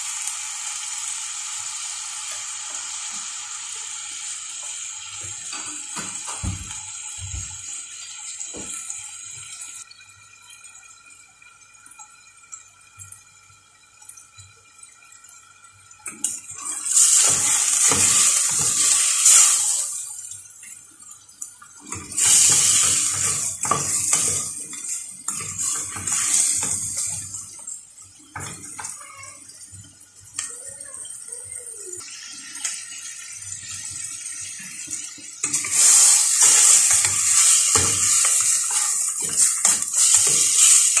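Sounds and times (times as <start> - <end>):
chicken sizzling in a pot: 0.0 - 11.1, 14.3 - 41.0.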